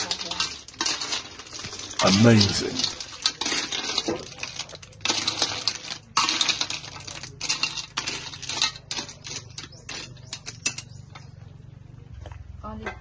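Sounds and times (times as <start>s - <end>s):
snail shells clattering in metal wok: 0.0s - 11.4s.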